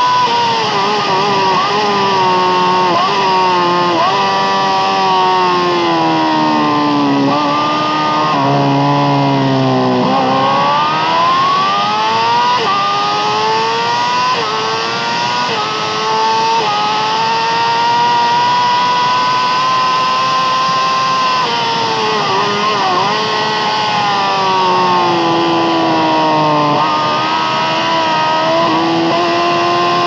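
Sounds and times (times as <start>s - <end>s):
sport motorcycle engine revving: 0.0s - 30.0s.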